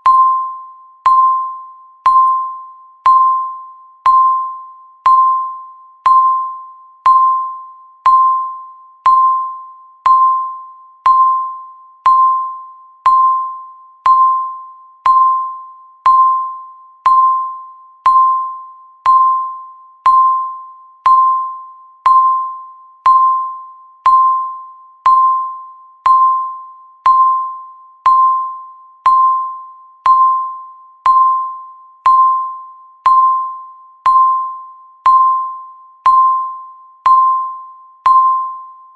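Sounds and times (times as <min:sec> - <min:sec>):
electronic timer ding: 0:00.0 - 0:38.9.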